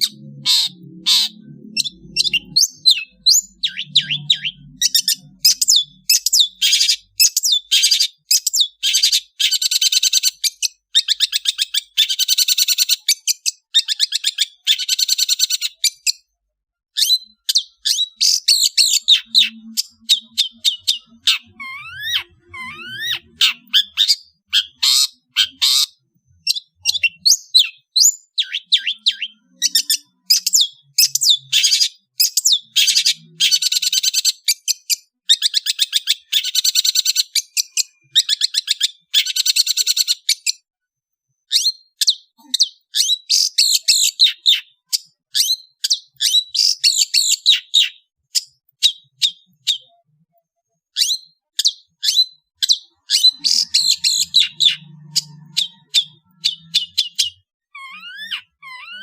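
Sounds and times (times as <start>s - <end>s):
bird singing chirps and trills: 0.0s - 16.3s, 17.0s - 40.7s, 41.3s - 59.0s.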